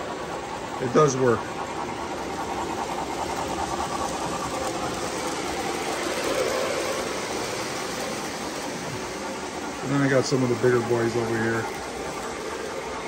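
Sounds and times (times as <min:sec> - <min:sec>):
faint motor whine: 0:00.0 - 0:13.0
model trains rumbling on track: 0:00.0 - 0:13.0.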